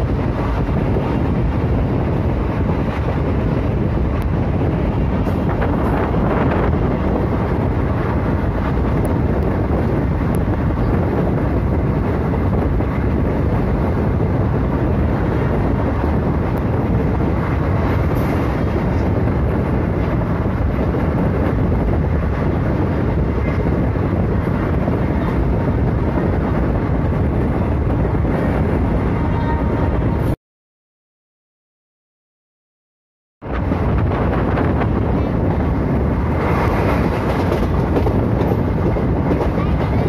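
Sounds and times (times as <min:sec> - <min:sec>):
train wheels rumbling on rails: 0:00.0 - 0:30.4, 0:33.4 - 0:40.0.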